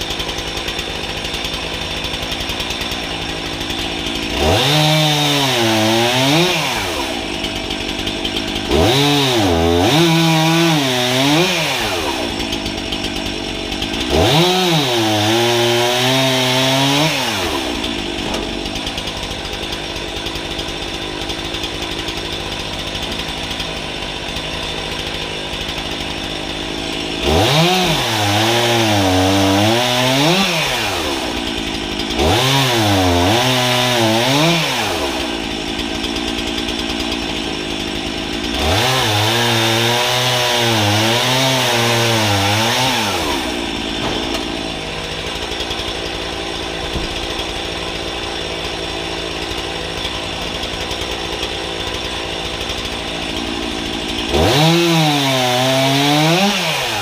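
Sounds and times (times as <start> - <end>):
chainsaw cutting logs: 0.0 - 57.0
chainsaw idling and revving: 0.0 - 57.0.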